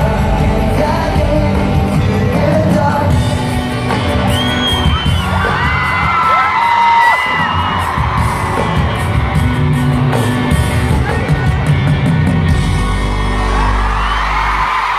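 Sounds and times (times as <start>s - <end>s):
crowd yelling and screaming: 0.0s - 14.9s
live pop-rock band: 0.0s - 14.9s.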